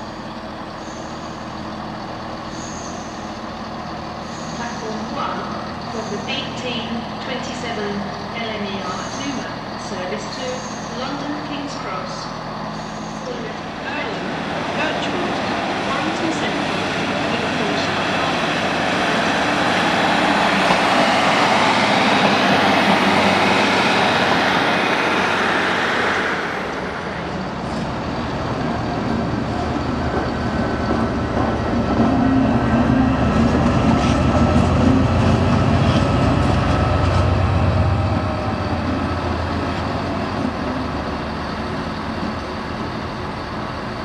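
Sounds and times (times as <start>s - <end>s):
train rushing rattle: 0.0s - 44.0s.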